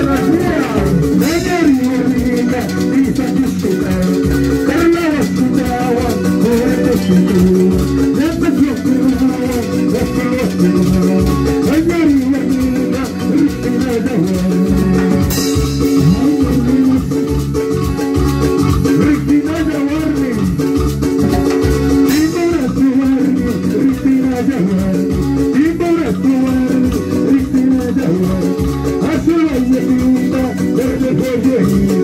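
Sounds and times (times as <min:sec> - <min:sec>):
band music through pa system: 0:00.0 - 0:32.0.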